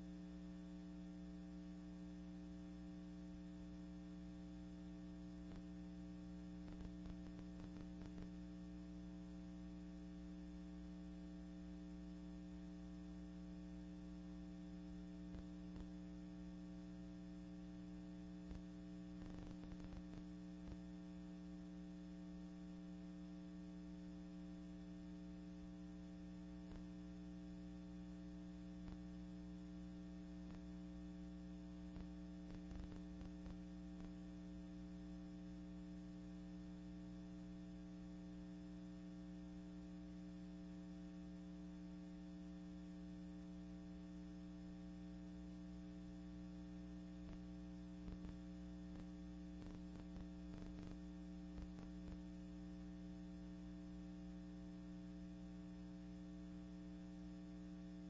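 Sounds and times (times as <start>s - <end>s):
electrical hum: 0.0s - 58.0s
faint static: 0.0s - 58.0s.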